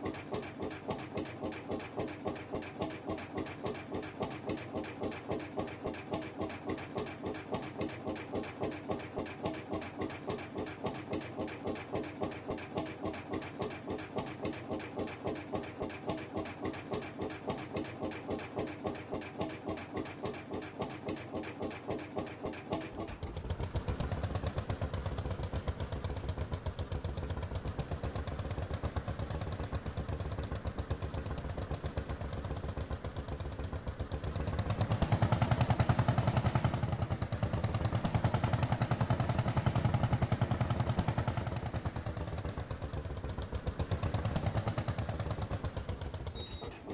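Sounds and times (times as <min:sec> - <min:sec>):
two-stroke engine thumping: 0:00.0 - 0:46.9.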